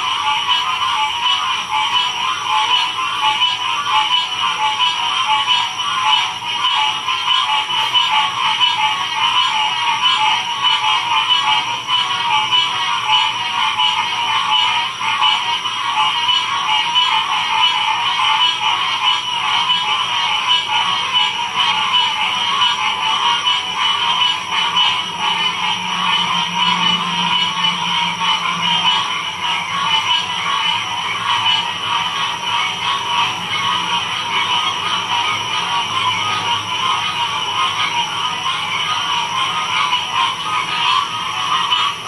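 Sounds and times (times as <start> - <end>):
chorus of frogs trilling: 0.0 - 42.0.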